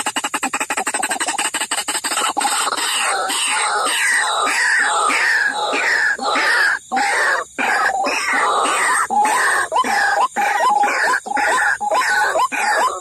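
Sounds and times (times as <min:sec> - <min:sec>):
harsh bird call: 0:00.2 - 0:13.0.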